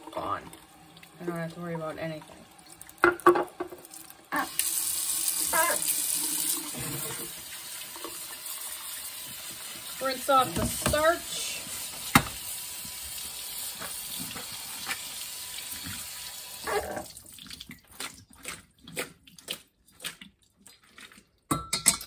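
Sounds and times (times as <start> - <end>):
tap water pouring into colander: 0.0 - 19.1
water dripping: 0.0 - 22.0.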